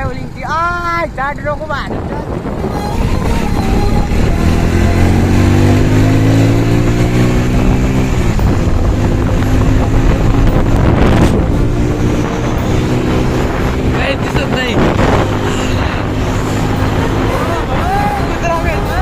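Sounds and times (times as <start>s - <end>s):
motorcycle engine: 0.0s - 19.0s.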